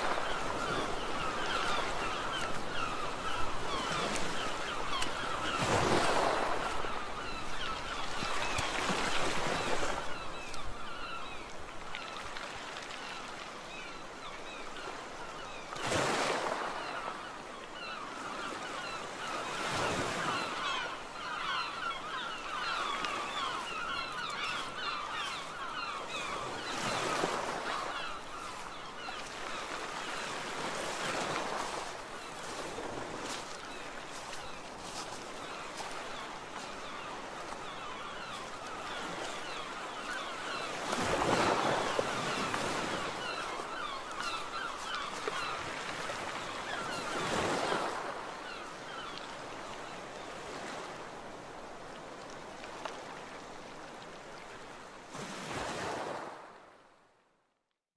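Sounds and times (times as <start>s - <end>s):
gulls calling: 0.0s - 12.3s, 13.0s - 51.5s
sea waves washing ashore: 0.0s - 56.8s.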